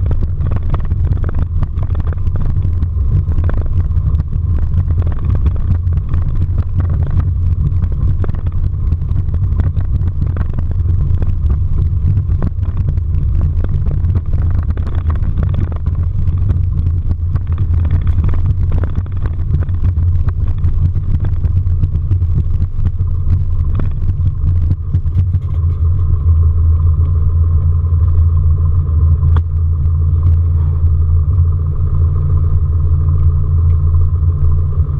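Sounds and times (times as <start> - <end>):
piston engine drone: 0.0 - 34.9
steady higher hum: 0.0 - 34.9.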